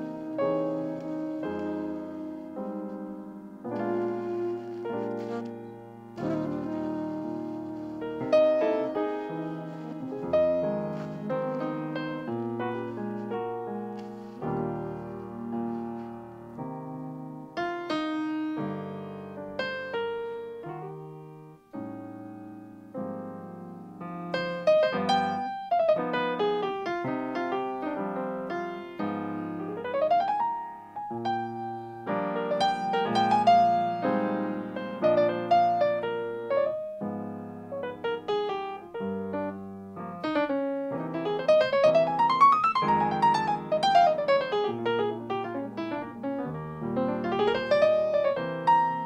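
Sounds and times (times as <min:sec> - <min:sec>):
solo jazz piano: 0:00.0 - 0:49.0.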